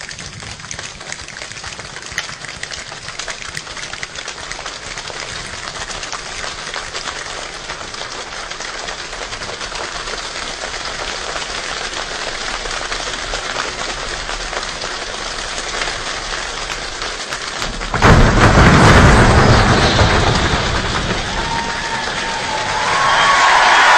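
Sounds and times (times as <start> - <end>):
body percussion rain patter: 0.0 - 23.9.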